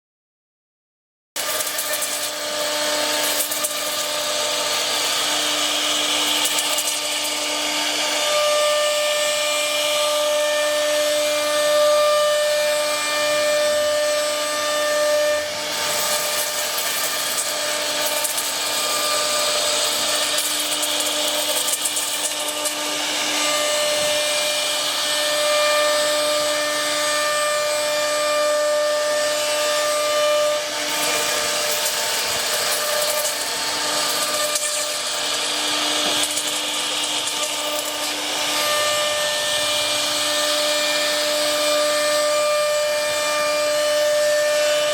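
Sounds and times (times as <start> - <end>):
power tool motor whine: 1.4 - 44.9
wood cutting and sanding hiss: 1.4 - 44.9.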